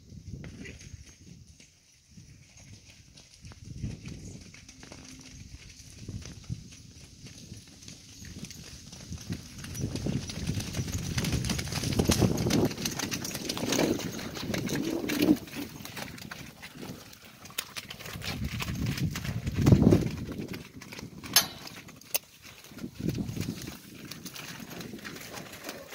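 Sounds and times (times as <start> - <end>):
horses trotting on muddy ground: 0.0 - 25.9.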